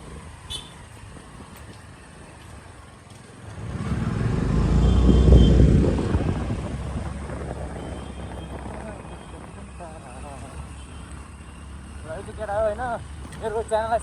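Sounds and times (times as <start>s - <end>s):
motorcycle road rumble: 0.0s - 14.0s.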